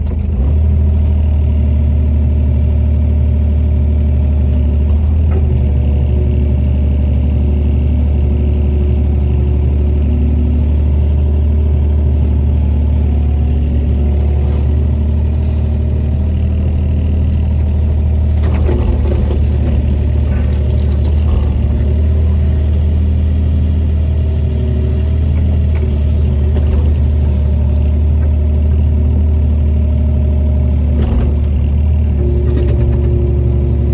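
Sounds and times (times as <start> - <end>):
diesel excavator engine running: 0.0 - 33.9.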